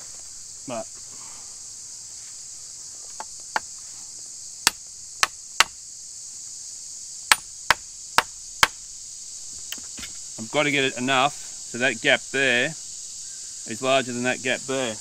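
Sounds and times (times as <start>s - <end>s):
high insect hiss: 0.0s - 15.0s.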